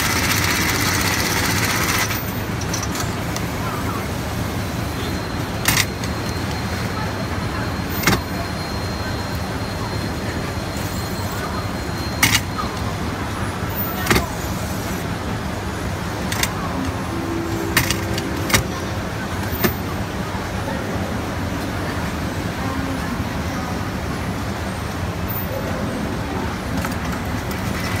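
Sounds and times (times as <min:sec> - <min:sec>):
machinery humming: 0:00.0 - 0:28.0.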